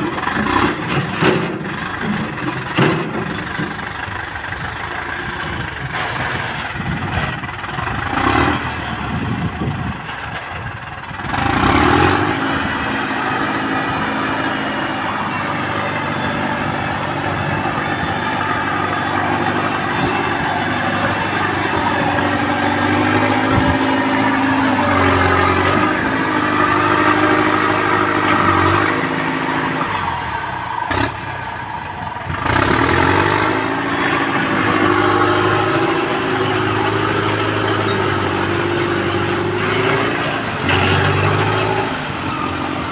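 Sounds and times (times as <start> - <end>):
tractor engine working: 0.0 - 42.9.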